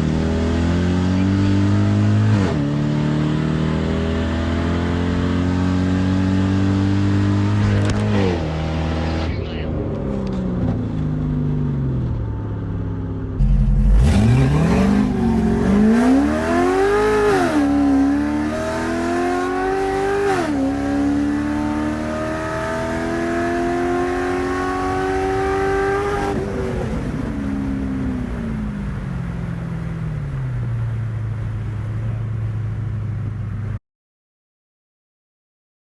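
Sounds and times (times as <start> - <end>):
car engine accelerating: 0.0 - 33.8.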